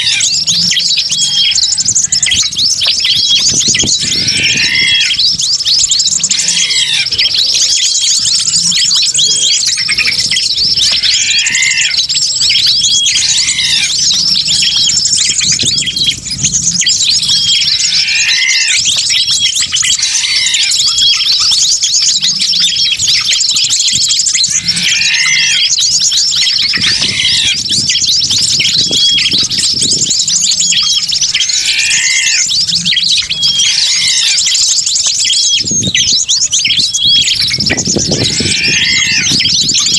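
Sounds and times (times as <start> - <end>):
chorus of small birds chirping: 0.0 - 39.9
low falling bird call: 0.0 - 39.9.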